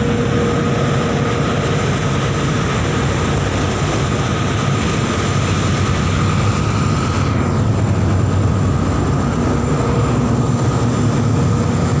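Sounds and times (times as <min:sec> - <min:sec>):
faint constant whine: 0:00.0 - 0:12.0
machinery drone: 0:00.0 - 0:12.0.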